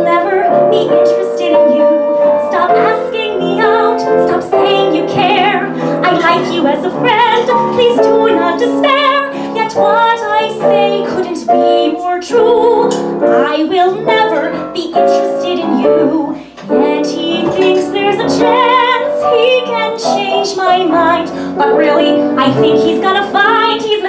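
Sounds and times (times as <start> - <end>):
piano accompaniment: 0.0 - 24.0
woman singing: 0.0 - 24.0.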